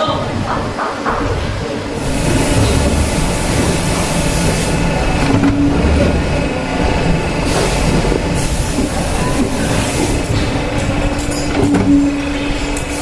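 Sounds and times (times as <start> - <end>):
factory machinery clatter: 0.0 - 13.0.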